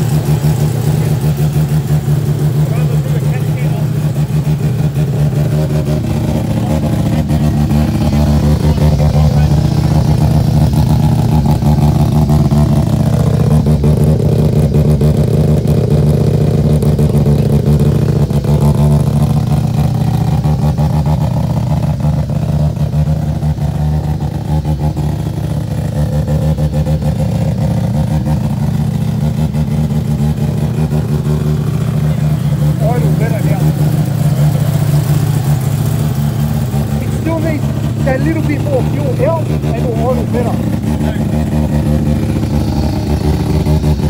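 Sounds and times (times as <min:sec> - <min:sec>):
rotary engine idling: 0:00.0 - 0:44.0.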